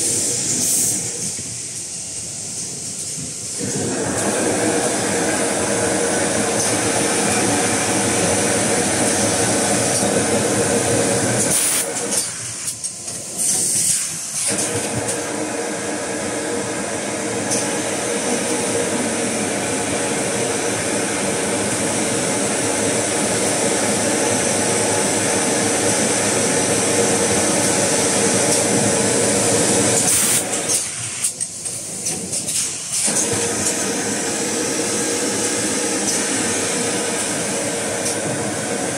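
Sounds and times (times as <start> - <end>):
wrapping machine running: 3.6 - 38.9.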